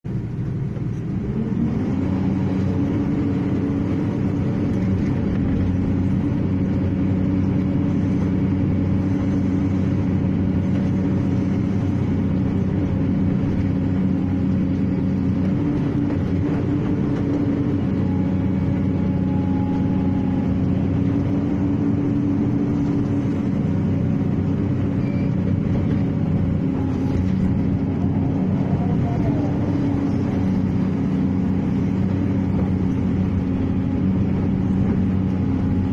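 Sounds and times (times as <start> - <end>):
excavator diesel engine running: 0.1 - 35.9.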